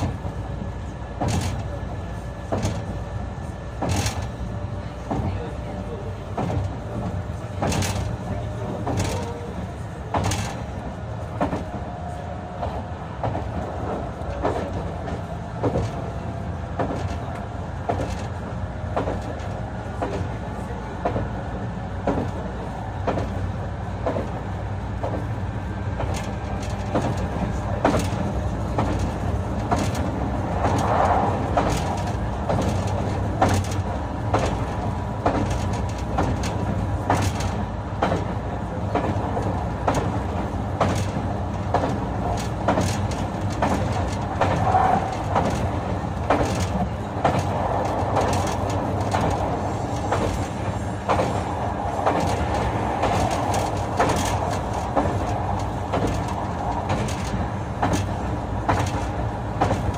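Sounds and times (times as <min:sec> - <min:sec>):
train wheels rumbling: 0:00.0 - 0:59.9
wheels clicking over rail joints: 0:00.0 - 0:59.9.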